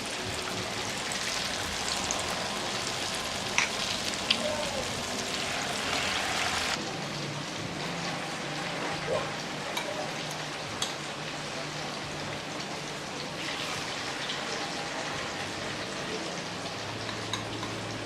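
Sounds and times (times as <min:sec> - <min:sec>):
fritters sizzling in oil: 0:00.0 - 0:18.0.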